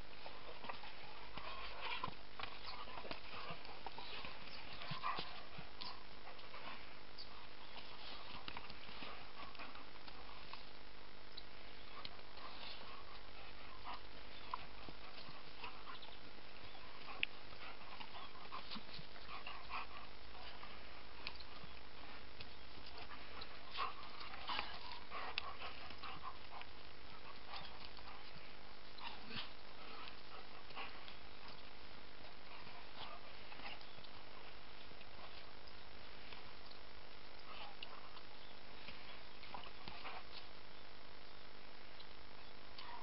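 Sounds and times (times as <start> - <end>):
dogs play-fighting: 0.0 - 41.2, 42.5 - 43.0
background hiss: 0.0 - 43.0.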